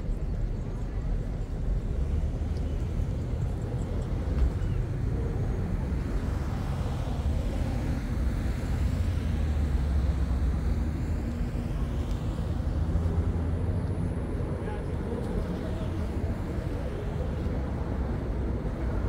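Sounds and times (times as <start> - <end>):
distant traffic rumble: 0.0 - 19.0
faint engine hum: 0.0 - 19.0.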